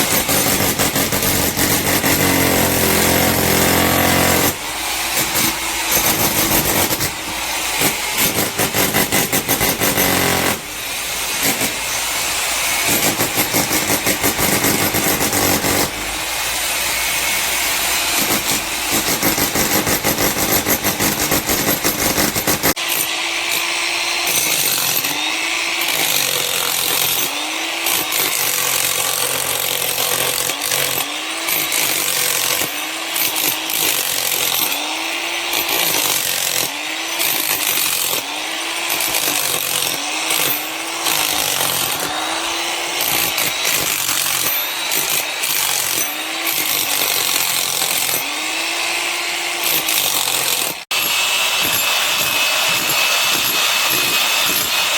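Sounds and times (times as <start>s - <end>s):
electric demolition hammer: 0.0s - 54.9s.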